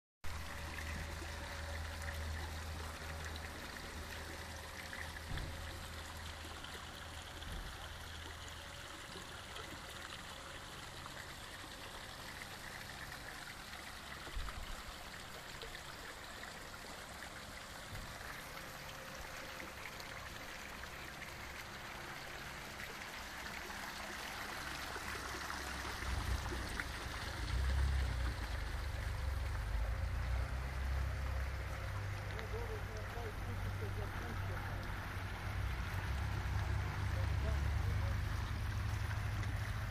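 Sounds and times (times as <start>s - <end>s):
fountain water splashing into pond: 0.3s - 39.9s.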